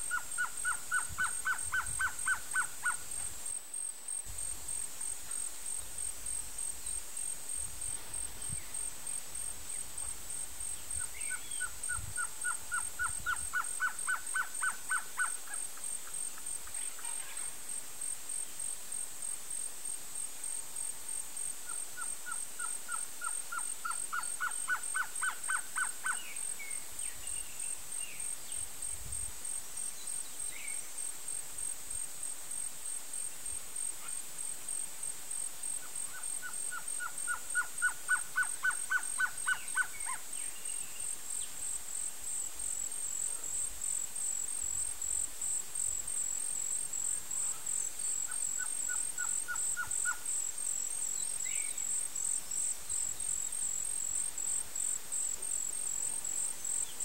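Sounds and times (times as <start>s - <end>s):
high-pitched insect trill: 0.0s - 57.0s.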